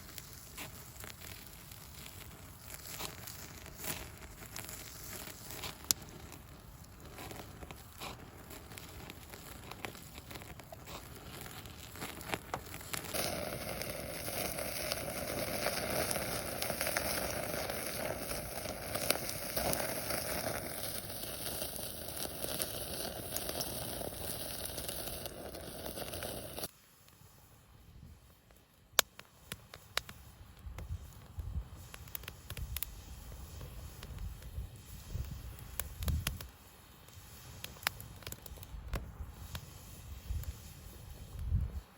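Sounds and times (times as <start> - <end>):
wood bonfire crackling and popping: 0.0 - 27.2, 28.3 - 41.9
fire hissing: 0.0 - 41.9.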